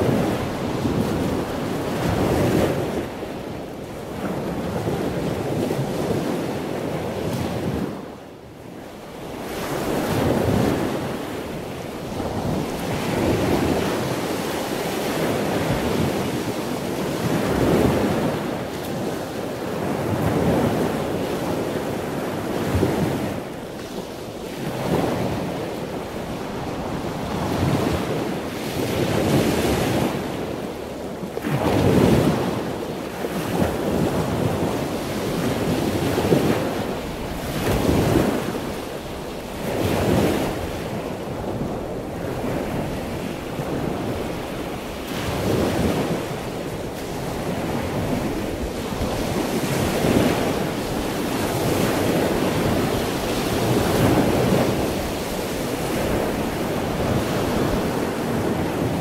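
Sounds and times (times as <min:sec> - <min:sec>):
heavy surf breaking on beach: 0:00.0 - 0:59.0
wind buffeting microphone: 0:00.0 - 0:59.0.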